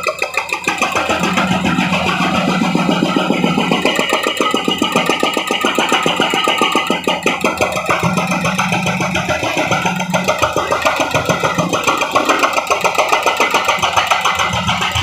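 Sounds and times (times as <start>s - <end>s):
heavy machine engine pulsing: 0.0s - 15.0s.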